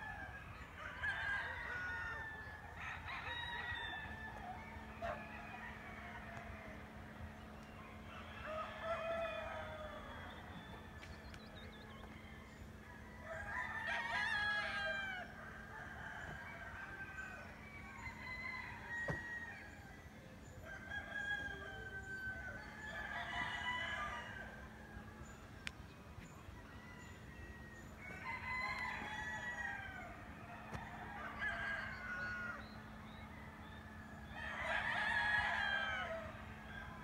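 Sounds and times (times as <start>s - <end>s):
roosters crowing: 0.0s - 7.0s, 8.0s - 11.0s, 12.1s - 25.4s, 26.6s - 37.0s.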